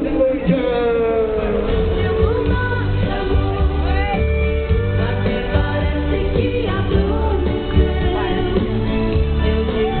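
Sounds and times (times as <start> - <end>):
pulsing bass line: 0.0 - 10.0
song with singing voice: 0.4 - 10.0.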